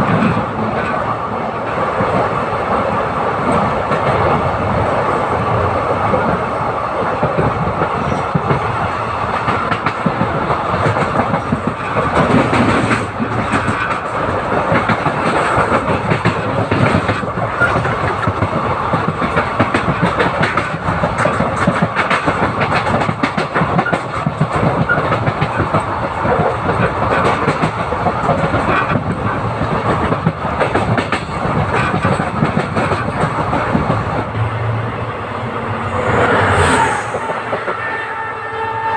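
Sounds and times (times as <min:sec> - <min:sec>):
rail clicks: 0:00.0 - 0:38.9
train wheels rumbling on track: 0:00.0 - 0:38.9.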